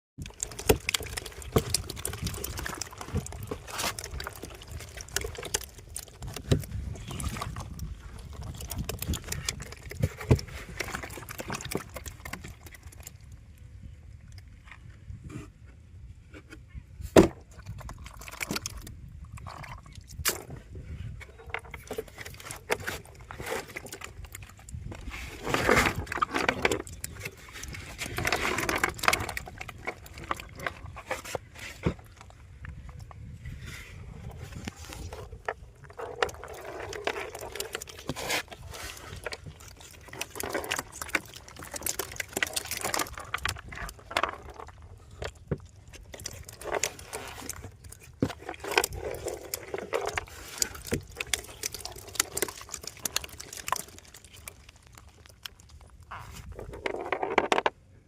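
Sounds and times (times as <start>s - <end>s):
water splashing and sloshing: 0.2s - 58.0s.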